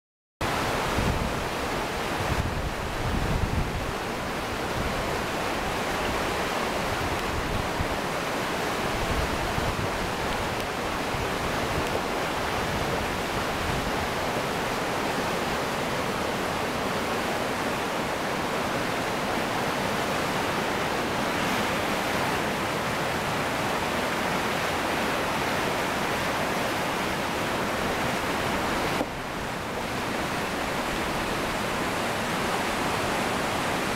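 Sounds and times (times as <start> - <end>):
river water rushing over rapids: 0.4 - 33.9
wind rumbling on microphone: 0.5 - 33.9.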